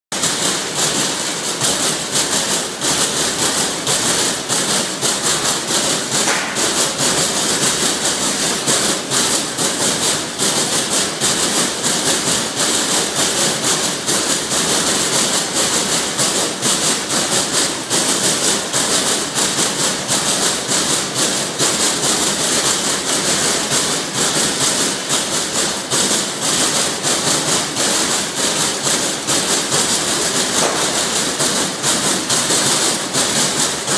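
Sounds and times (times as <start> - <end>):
punching machine punch strokes: 0.2 - 33.9.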